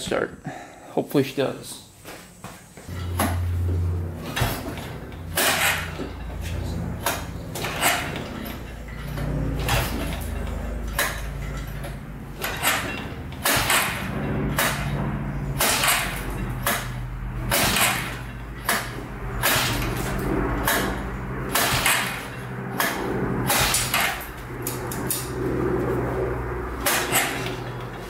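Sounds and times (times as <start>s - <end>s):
low steady hum: 1.6s - 28.0s
recoil starter cranking engine: 2.9s - 25.6s, 26.7s - 28.0s.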